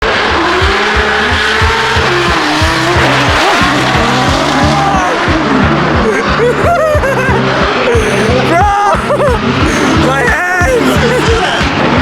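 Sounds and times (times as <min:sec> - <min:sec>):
car engines revving: 0:00.0 - 0:12.0
hip-hop beat with heavy bass: 0:00.0 - 0:12.0
tyres squealing: 0:01.0 - 0:12.0.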